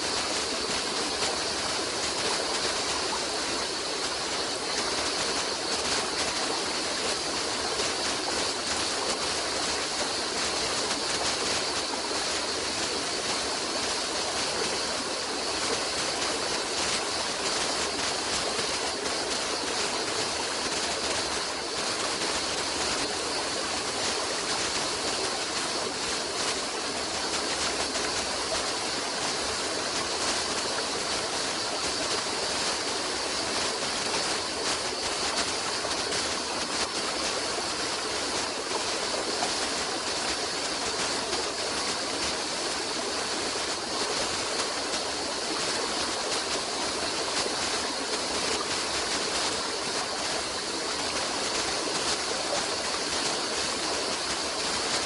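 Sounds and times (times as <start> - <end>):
running water flowing: 0.0 - 55.0.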